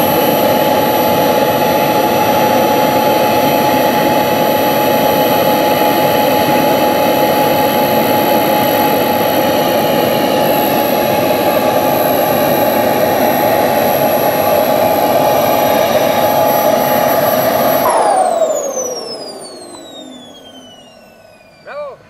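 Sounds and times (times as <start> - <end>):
model jet engine whine: 0.0 - 22.0.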